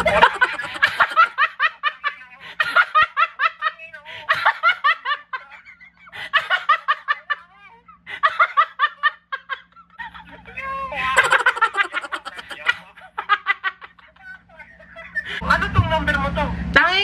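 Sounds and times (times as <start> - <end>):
woman laughing hard: 0.0 - 7.4, 8.0 - 10.5, 11.2 - 15.4.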